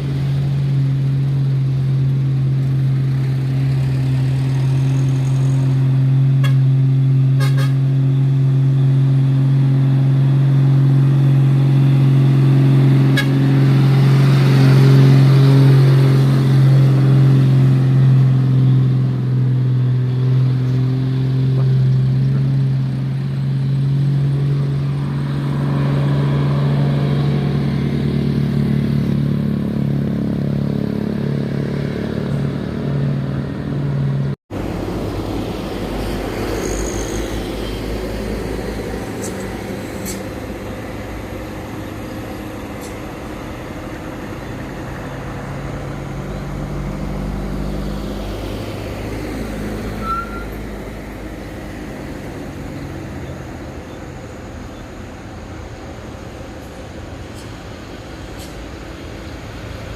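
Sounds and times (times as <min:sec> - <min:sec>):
heavy vehicle engine droning: 0:00.0 - 0:59.9
rough traffic rumble: 0:00.0 - 0:59.9.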